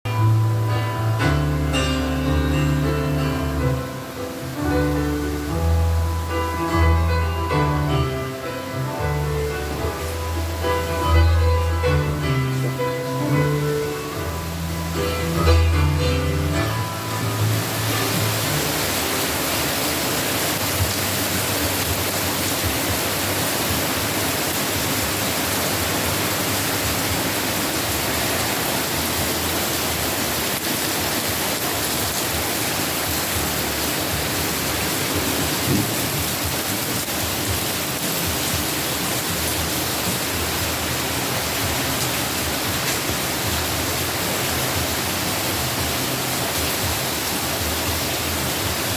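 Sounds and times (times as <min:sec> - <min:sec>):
steady rainfall: 0:00.0 - 0:48.9.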